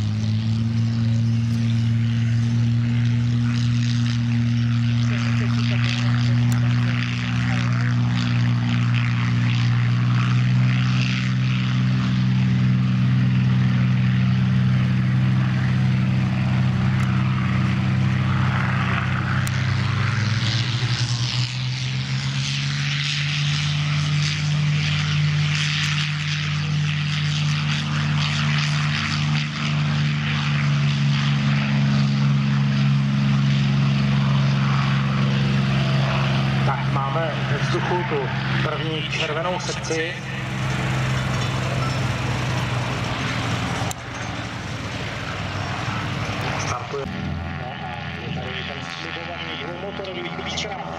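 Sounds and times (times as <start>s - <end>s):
propeller aircraft engines running: 0.0s - 50.9s.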